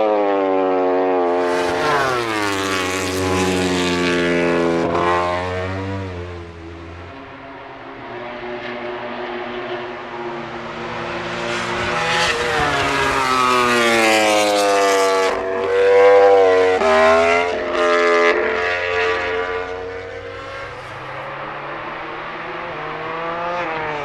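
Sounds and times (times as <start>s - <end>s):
race motorcycle engine accelerating: 0.0s - 8.0s, 8.6s - 24.0s.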